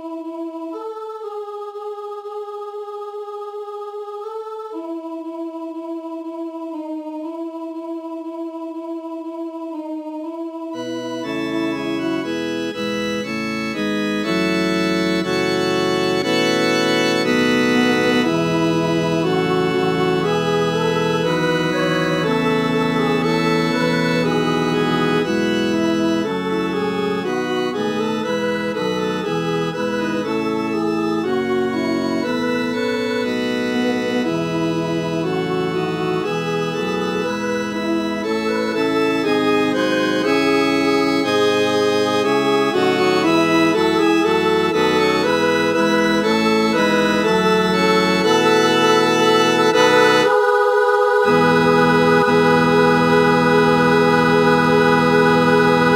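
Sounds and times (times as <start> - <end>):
synthesized organ-like choral chords: 0.0 - 55.9.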